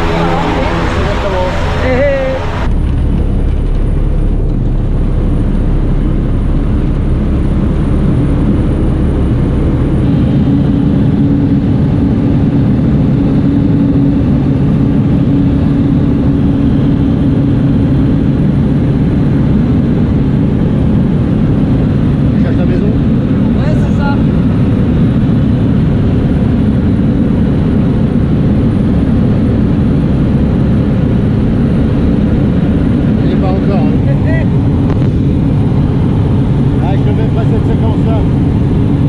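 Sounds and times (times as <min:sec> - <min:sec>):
propeller plane engine drone: 0:00.0 - 0:39.0.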